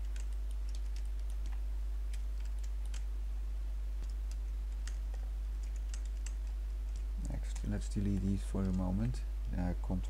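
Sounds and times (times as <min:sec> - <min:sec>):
keyboard and mouse clicks: 0:00.0 - 0:03.1, 0:04.0 - 0:09.6.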